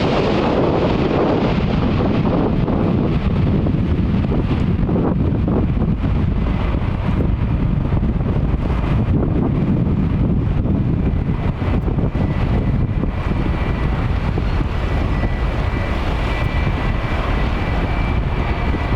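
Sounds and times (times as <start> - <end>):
jet engines rumbling: 0.0 - 18.9
wind buffeting microphone: 0.0 - 18.9.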